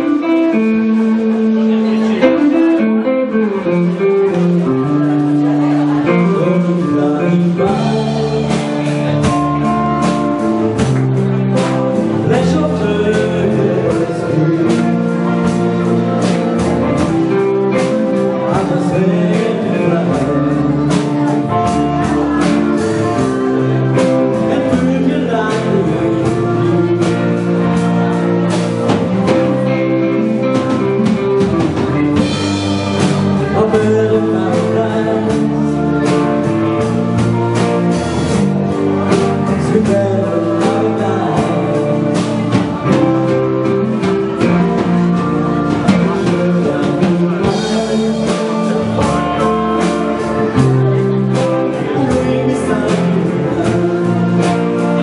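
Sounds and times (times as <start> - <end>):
drum kit: 0.0 - 55.0
electric guitars: 0.0 - 55.0
keyboard: 0.0 - 55.0
man singing into a microphone: 0.0 - 55.0.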